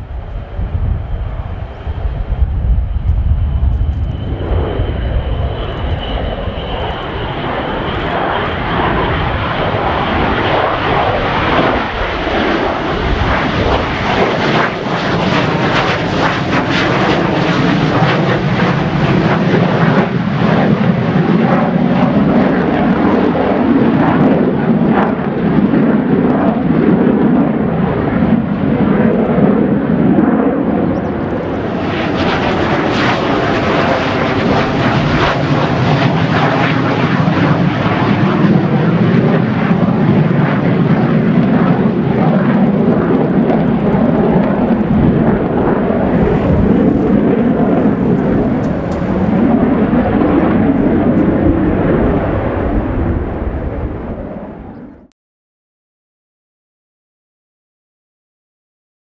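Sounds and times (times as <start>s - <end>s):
jet roar with crackle: 0.0s - 55.1s.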